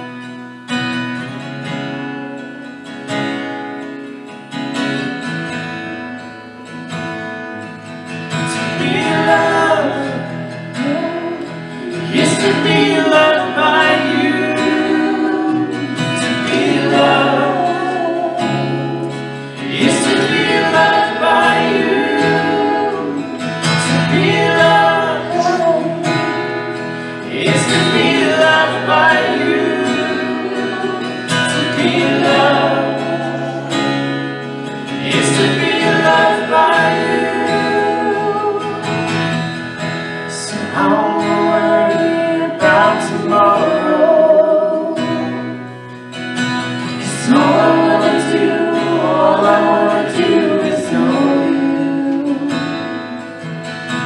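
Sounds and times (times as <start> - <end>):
worship song with instruments: 0.0 - 54.0.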